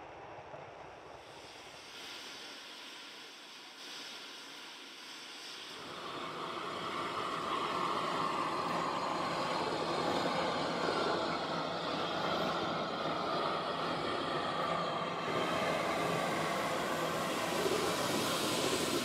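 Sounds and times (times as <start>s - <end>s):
steam locomotive hissing: 1.2s - 19.0s.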